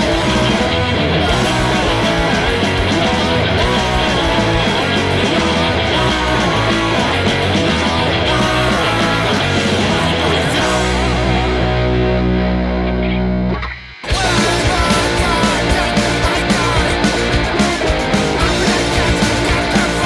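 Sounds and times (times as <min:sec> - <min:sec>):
loud rock music with electric guitar: 0:00.0 - 0:20.0.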